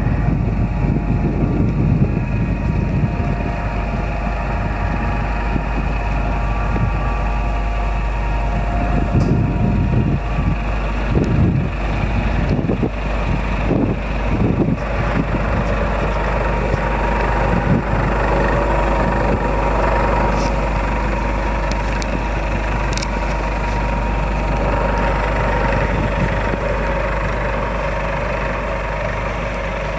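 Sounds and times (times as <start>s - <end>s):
truck engine idling: 0.0s - 29.9s.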